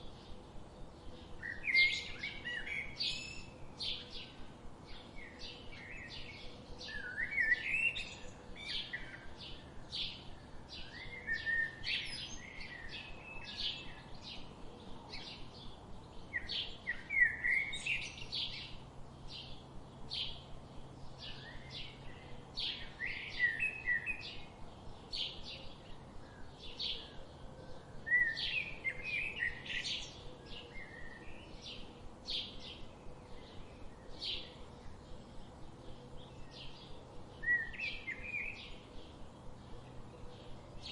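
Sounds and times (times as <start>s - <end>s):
bird warbling song: 0.0s - 40.9s
small birds chirping: 0.0s - 40.9s.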